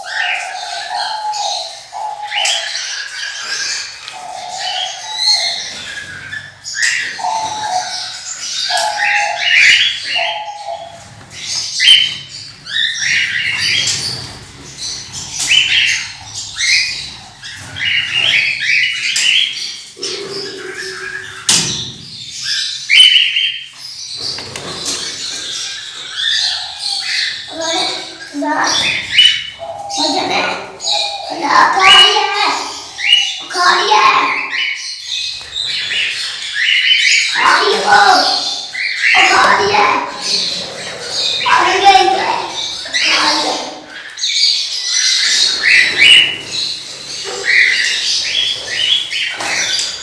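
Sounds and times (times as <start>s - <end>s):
parrots chirping and squawking: 0.0s - 50.0s.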